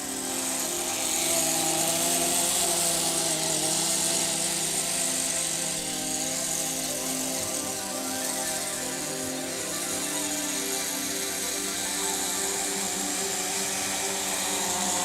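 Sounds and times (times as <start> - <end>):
model engine at high revs: 0.0 - 15.0.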